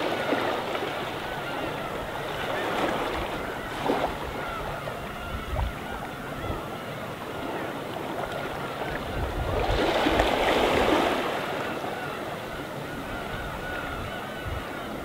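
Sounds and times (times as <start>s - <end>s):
sea waves washing onto shore: 0.0s - 12.5s
gulls calling: 0.0s - 15.0s.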